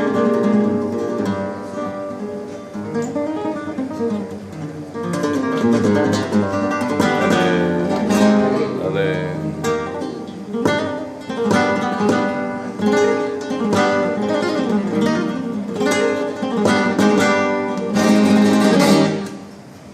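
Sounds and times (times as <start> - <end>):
flamenco guitar playing: 0.0 - 19.9.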